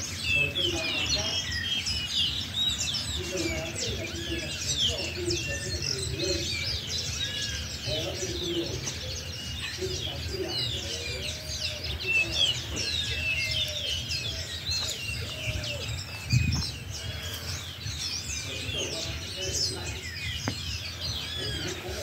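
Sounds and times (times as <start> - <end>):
lower arching bird calls: 0.0 - 22.0
small birds chirping and twittering: 0.0 - 22.0.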